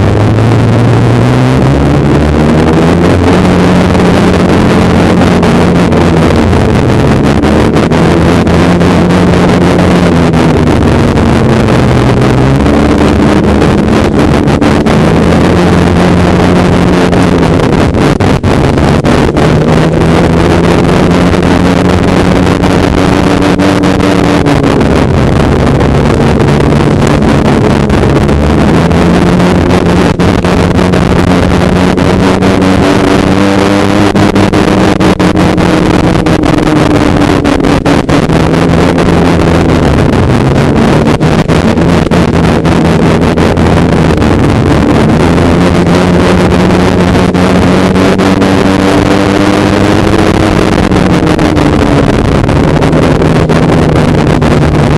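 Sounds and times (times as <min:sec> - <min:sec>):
snowmobile engine running: 0:00.0 - 0:54.9
wind rushing over microphone: 0:00.0 - 0:54.9.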